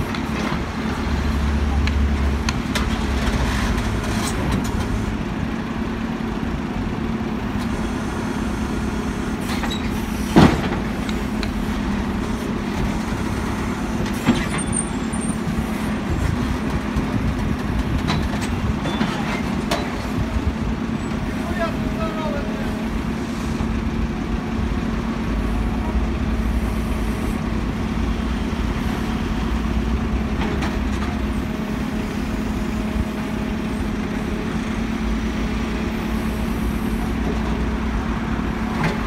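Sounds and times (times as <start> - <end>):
heavy diesel engines running: 0.0 - 39.0.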